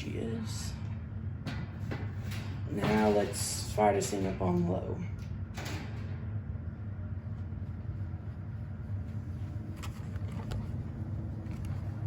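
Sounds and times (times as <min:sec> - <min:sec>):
box fan humming: 0:00.0 - 0:12.0.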